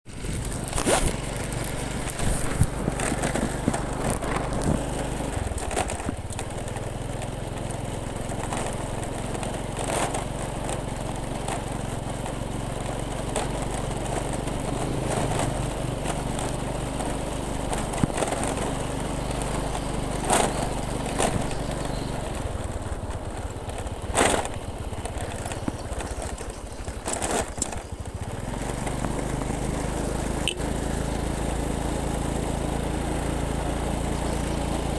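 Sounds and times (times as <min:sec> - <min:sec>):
small motorcycle engine running: 0:00.1 - 0:34.9.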